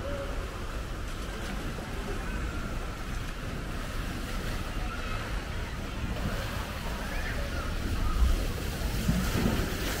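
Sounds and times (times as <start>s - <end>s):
faint distant voices: 0.0s - 10.0s.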